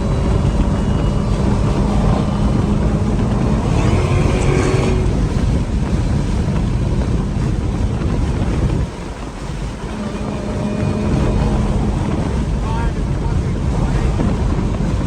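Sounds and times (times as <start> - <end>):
car engine and road rumble: 0.0 - 15.0
wind noise on microphone: 0.0 - 15.0.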